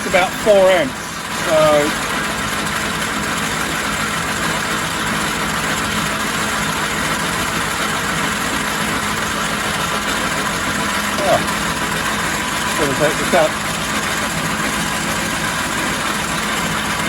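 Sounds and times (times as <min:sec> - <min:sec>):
metal lathe running: 0:00.0 - 0:17.0.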